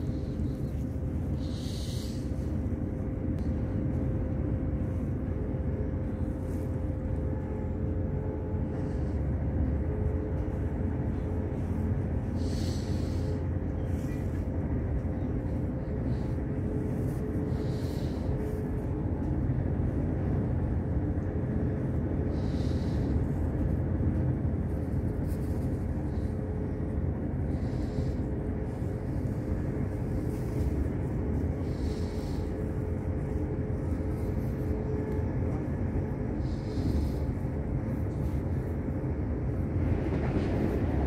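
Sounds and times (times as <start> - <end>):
faint steady hum: 0.0 - 41.0
train rumbling on track: 0.0 - 41.0.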